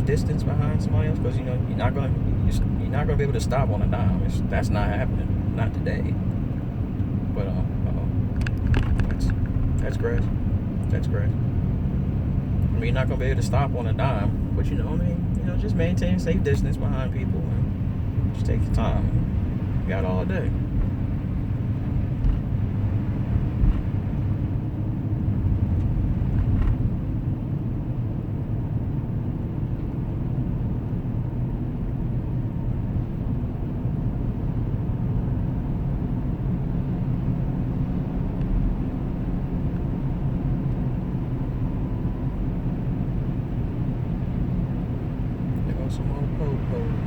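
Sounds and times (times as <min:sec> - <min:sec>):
car cabin road rumble: 0:00.0 - 0:47.0.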